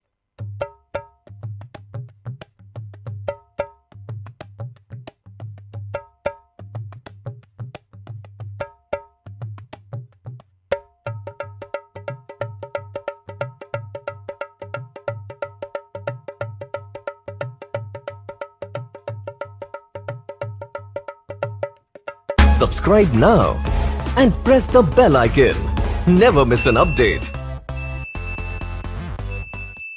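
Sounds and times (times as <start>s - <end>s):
dholak drum loop: 0.4s - 29.8s.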